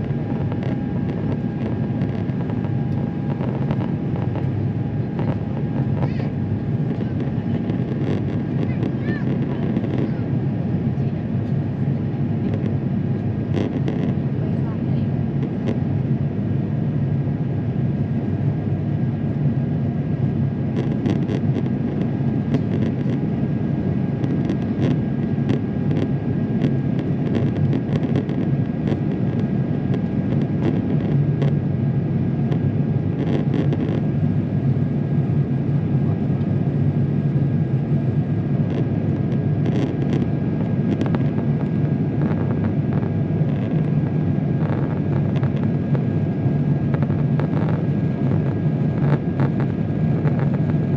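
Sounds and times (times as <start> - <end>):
aircraft cabin rumble: 0.0 - 50.9.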